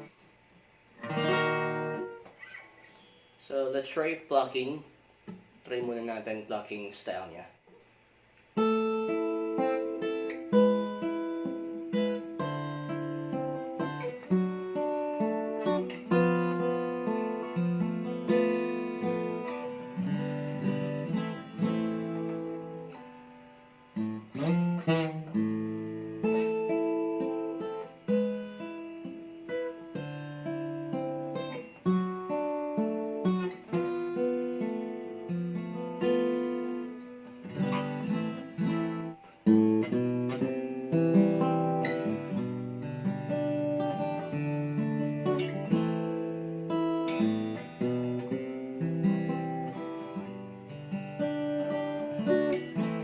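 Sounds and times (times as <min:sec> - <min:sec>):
fingerstyle acoustic guitar: 0:00.0 - 0:06.7, 0:07.7 - 0:53.0.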